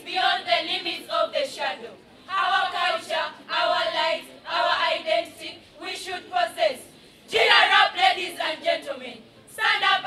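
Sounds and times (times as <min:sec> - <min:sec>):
women singing unaccompanied: 0:00.0 - 0:10.0.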